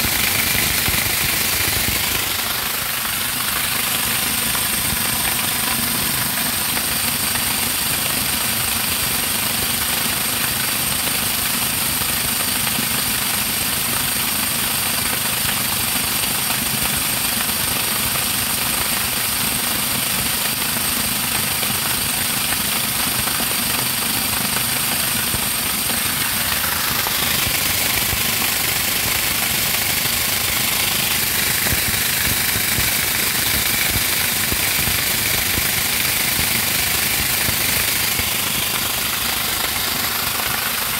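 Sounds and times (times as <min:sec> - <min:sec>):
motor-driven corn grinder running: 0:00.0 - 0:40.9.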